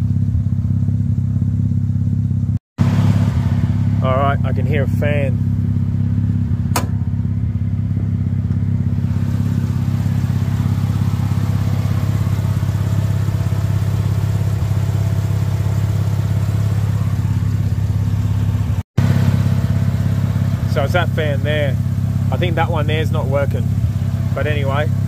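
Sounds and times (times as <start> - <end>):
rotary engine idling: 0.0 - 25.0
radiator cooling fan running: 2.8 - 25.0.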